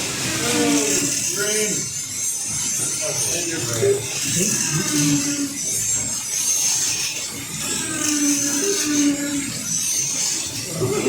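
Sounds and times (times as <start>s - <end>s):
slot car motors whining: 0.0s - 11.0s.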